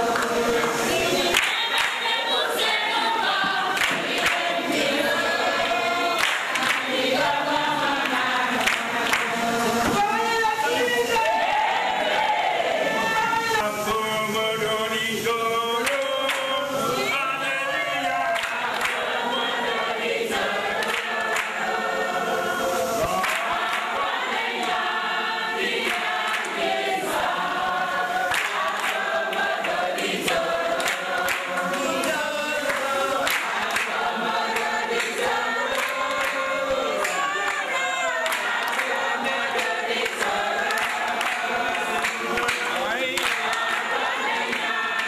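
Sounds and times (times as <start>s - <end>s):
hand-clapping: 0.0s - 10.3s, 15.4s - 45.0s
crowd singing: 0.0s - 45.0s.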